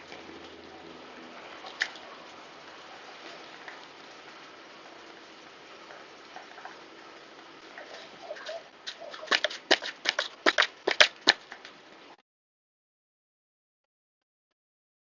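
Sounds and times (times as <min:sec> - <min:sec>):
faint hiss: 0:00.0 - 0:12.2.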